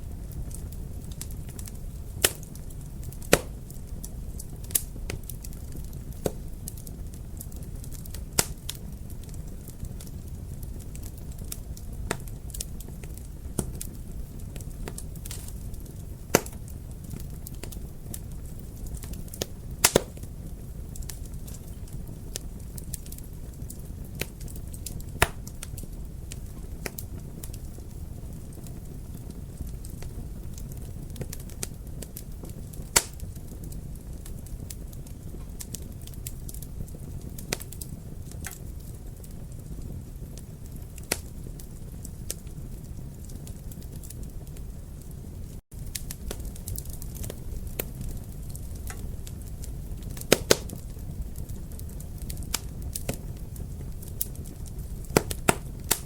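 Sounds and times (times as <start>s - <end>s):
flames rumbling: 0.0s - 56.0s
wood fire crackling and popping: 0.0s - 56.0s.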